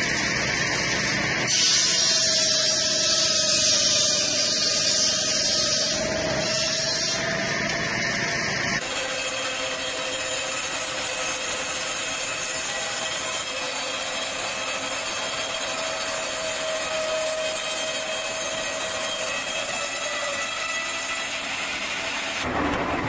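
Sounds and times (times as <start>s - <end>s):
band saw cutting log: 0.0s - 23.0s
saw blade whine: 0.0s - 23.0s.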